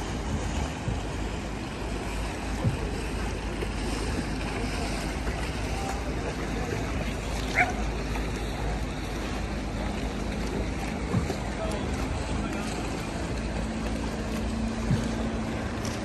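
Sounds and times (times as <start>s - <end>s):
water washing around a boat: 0.0s - 16.0s
wind rumble on microphone: 0.0s - 16.0s.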